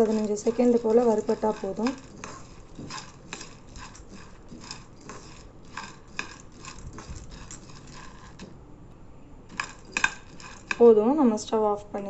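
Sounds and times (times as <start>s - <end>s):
spoon stirring lentils in dry pan: 0.0s - 8.6s, 9.5s - 11.5s.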